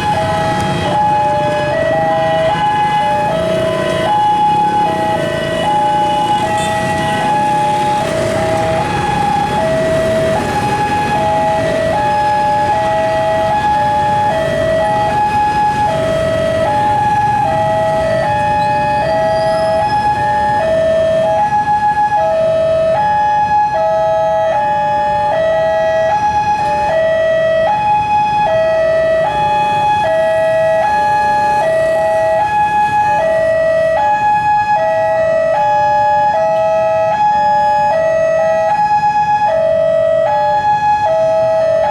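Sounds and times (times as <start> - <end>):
low rumble of traffic: 0.0 - 41.9.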